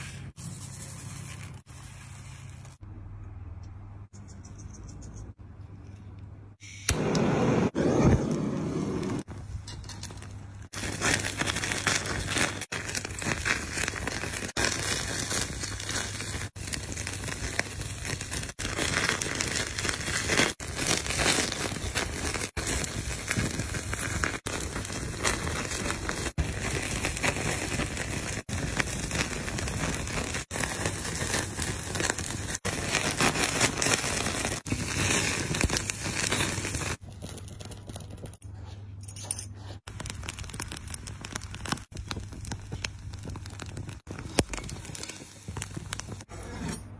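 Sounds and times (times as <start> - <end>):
flames crackling and hissing: 6.6 - 9.5, 10.1 - 38.4, 39.8 - 46.3.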